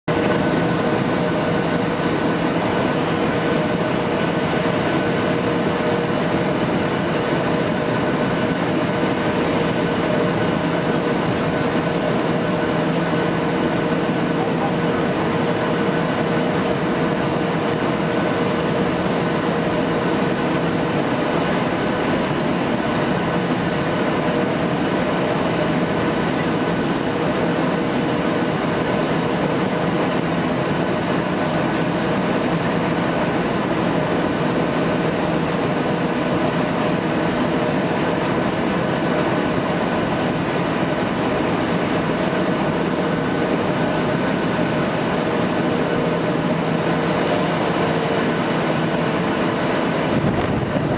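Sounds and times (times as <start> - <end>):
airflow and air conditioning rush: 0.0 - 50.9
jet engines whining: 0.1 - 50.9.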